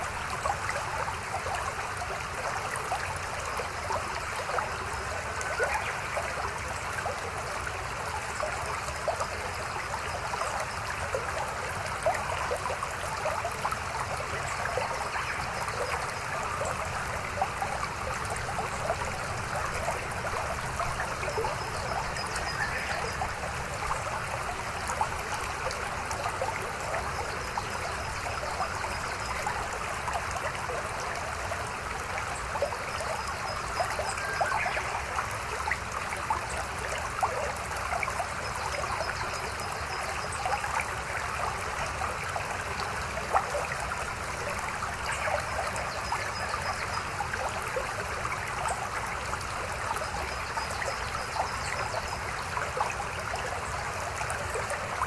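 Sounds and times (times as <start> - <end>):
stream babbling and trickling: 0.0 - 55.0.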